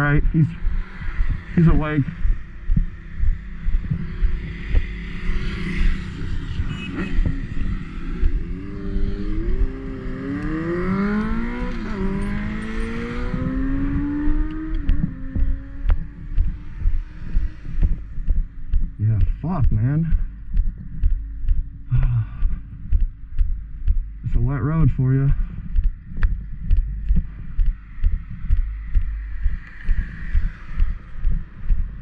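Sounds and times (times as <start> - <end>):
vehicle engine accelerating: 0.0 - 22.2, 23.8 - 32.0
low rumble: 0.0 - 32.0.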